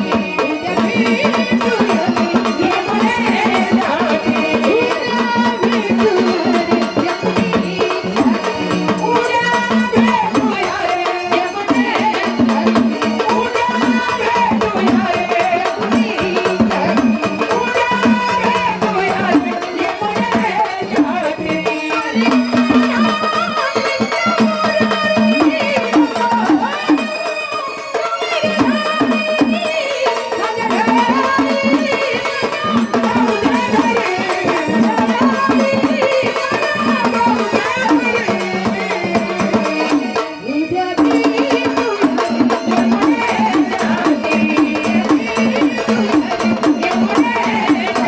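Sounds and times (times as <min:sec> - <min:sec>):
hand drums fast rhythm: 0:00.0 - 0:48.0.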